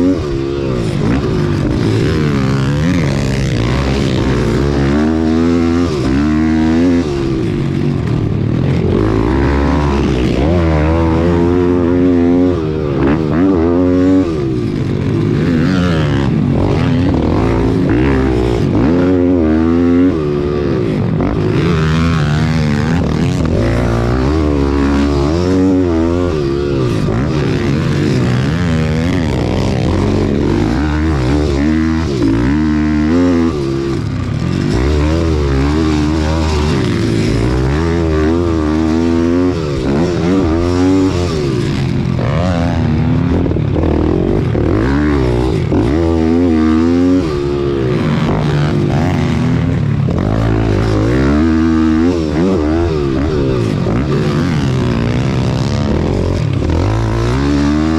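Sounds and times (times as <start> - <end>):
motorbike engine revving: 0.0 - 57.9.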